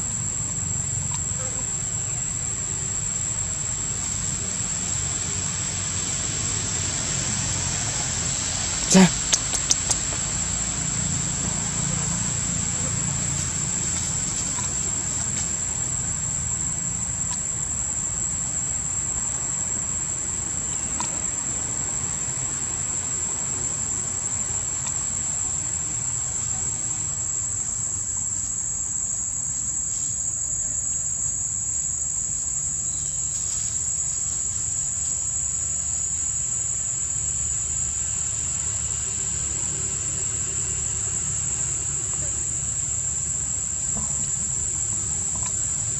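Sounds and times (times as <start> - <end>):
insects chorus drone: 0.0 - 45.9.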